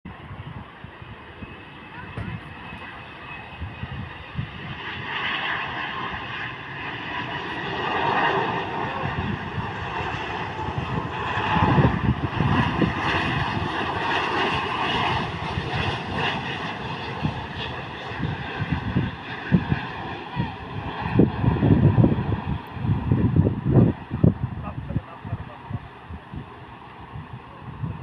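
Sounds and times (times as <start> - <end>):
jet engine roar with whine: 0.1 - 28.0.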